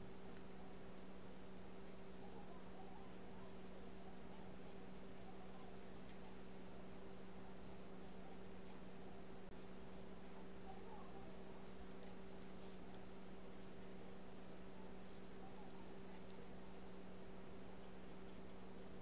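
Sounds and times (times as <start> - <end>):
steady low hum: 0.0 - 19.0
paintbrush scratching on paper: 0.3 - 6.7, 7.5 - 17.2, 17.8 - 19.0.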